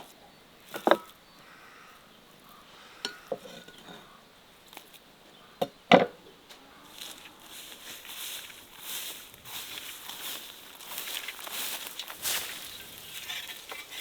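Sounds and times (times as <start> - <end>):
soft crackling hiss: 0.0 - 14.0.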